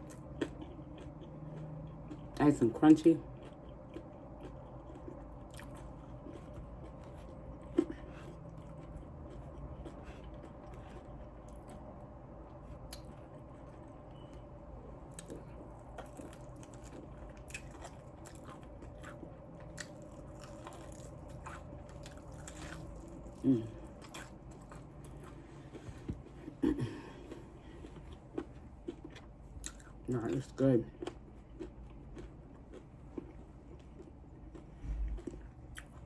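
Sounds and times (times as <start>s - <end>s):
crunchy chewing of fried chicken: 0.0s - 36.0s.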